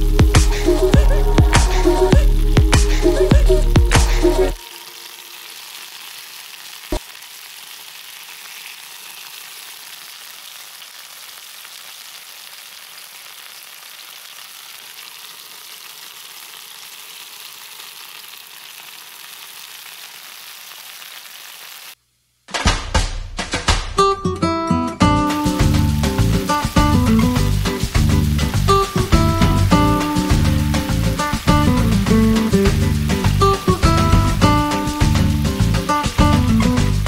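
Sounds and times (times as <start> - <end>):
food sizzling in a pan: 0.0 - 22.0, 25.2 - 37.0.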